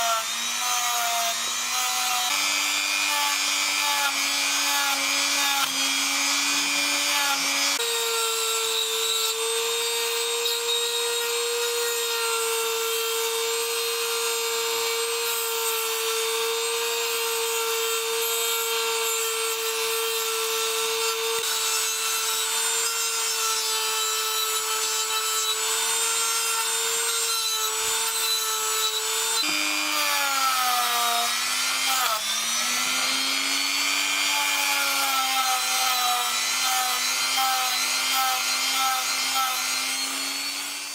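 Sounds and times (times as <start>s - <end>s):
rotary tool whining: 0.0s - 40.9s.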